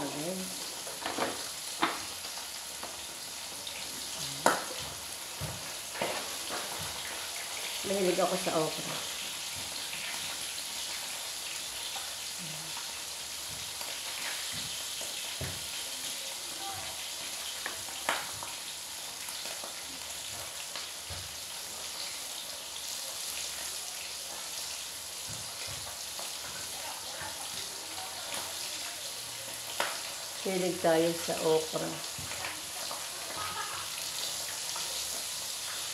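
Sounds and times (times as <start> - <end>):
broth simmering: 0.0 - 35.9.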